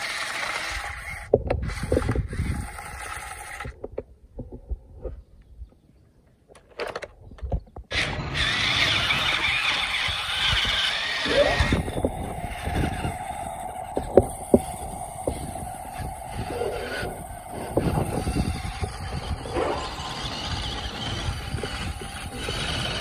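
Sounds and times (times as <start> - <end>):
small electric motors whining: 0.0 - 4.0, 7.9 - 23.0.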